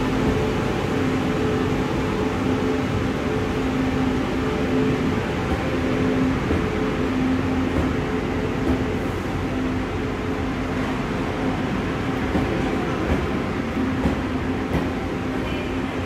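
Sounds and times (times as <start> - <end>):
passenger train running: 0.0 - 16.0.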